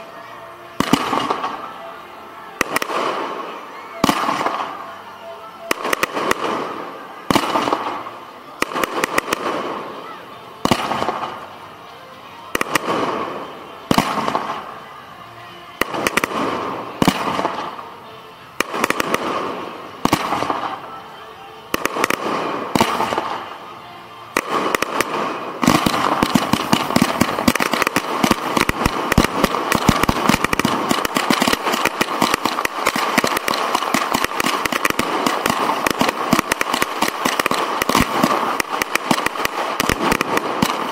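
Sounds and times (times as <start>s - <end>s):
rapid firework crackle: 0.0s - 40.9s
firework bangs: 0.7s - 11.8s, 12.4s - 21.0s, 21.7s - 40.9s.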